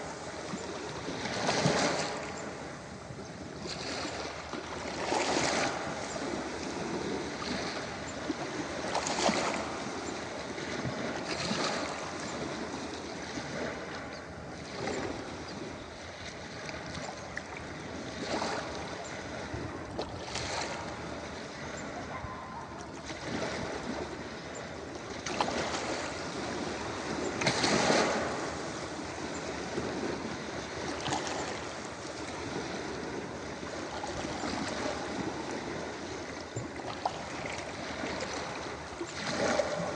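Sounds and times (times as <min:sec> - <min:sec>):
small ocean waves breaking: 0:00.0 - 0:39.9.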